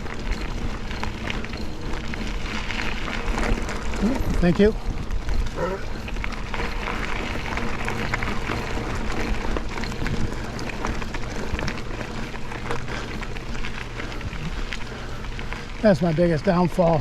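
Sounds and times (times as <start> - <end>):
bike rattles and clicks: 0.0 - 17.0
tyres crunching on gravel: 0.0 - 17.0.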